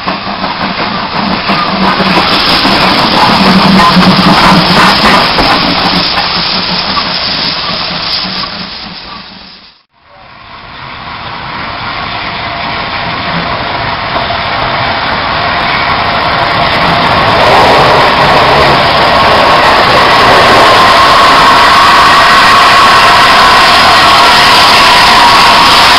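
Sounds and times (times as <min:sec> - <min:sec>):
steam hissing: 0:00.0 - 0:09.9, 0:10.6 - 0:25.9
steam locomotive passing: 0:00.0 - 0:25.9.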